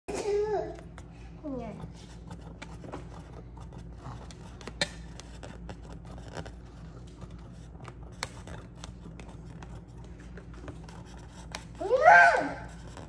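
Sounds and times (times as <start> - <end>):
scissors scraping on balloon: 0.7 - 13.0.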